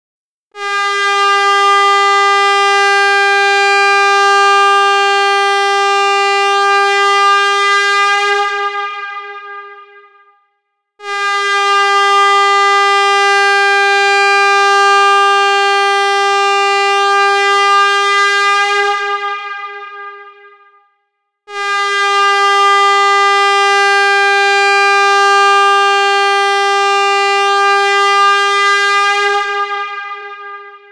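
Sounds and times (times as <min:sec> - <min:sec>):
air horn blasts: 0:00.5 - 0:10.4, 0:11.0 - 0:20.8, 0:21.5 - 0:30.9.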